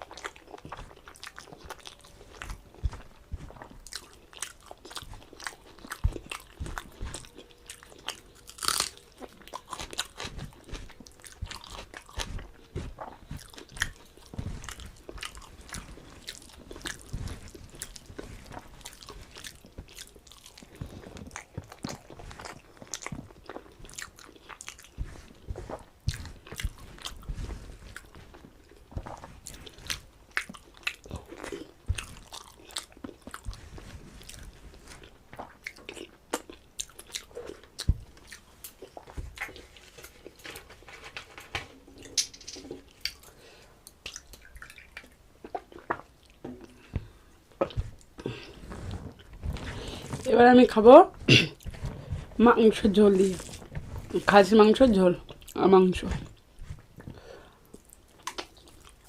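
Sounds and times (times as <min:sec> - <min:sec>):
person chewing food: 0:00.0 - 0:54.4, 0:55.1 - 0:59.0.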